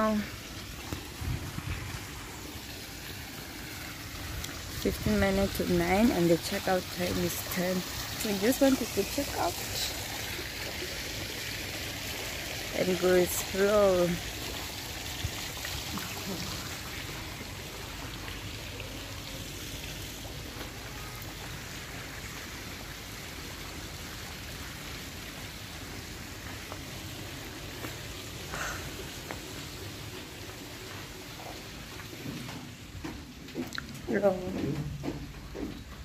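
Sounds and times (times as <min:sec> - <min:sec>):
fountain water splashing: 0:00.0 - 0:32.3.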